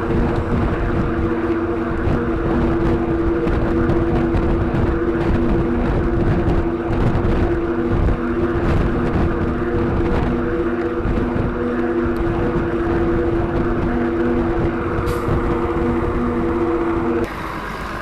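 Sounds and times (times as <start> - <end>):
wind buffeting microphone: 0.0 - 17.3
road noise: 0.0 - 18.0
steady low drone: 0.0 - 18.0.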